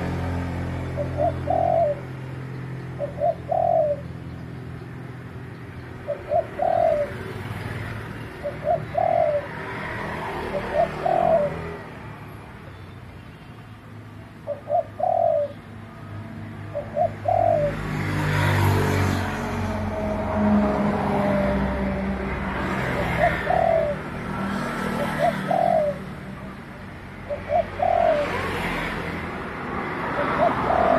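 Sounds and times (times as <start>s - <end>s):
dove cooing: 0.0s - 4.3s, 6.0s - 11.9s, 14.4s - 15.7s, 16.6s - 26.6s, 27.2s - 30.9s.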